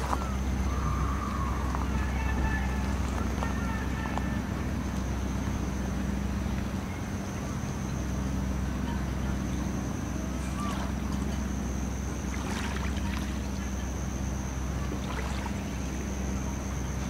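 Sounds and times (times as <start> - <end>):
boat engine humming: 0.0 - 17.0
high-pitched whine: 0.0 - 17.0.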